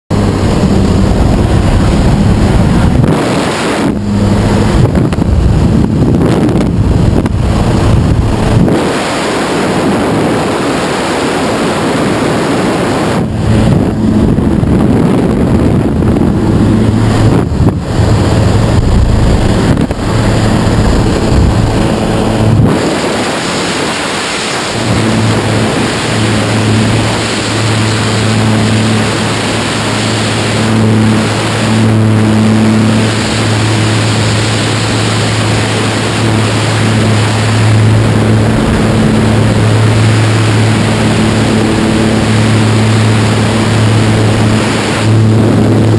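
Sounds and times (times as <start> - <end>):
aircraft engine and propeller drone: 0.0 - 45.9
wind rushing buffeting microphone: 0.1 - 45.9.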